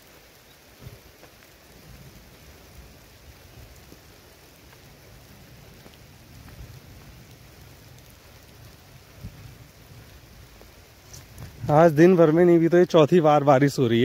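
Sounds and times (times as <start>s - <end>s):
heavy rain falling: 0.0s - 14.0s
large raindrops ticking: 0.0s - 14.0s.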